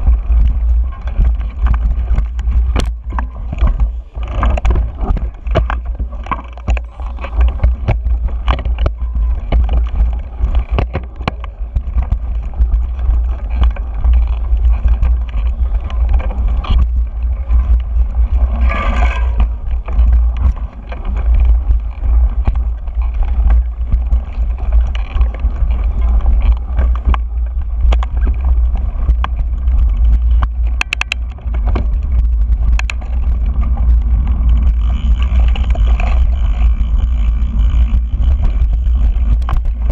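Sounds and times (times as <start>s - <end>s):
bike rattling over rough ground: 0.0s - 39.9s
wind buffeting microphone: 0.0s - 39.9s.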